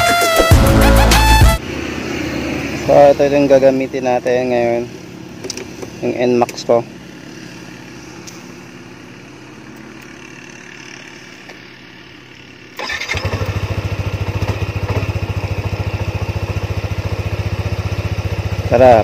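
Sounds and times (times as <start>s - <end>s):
scooter engine starting and idling: 0.5s - 19.0s.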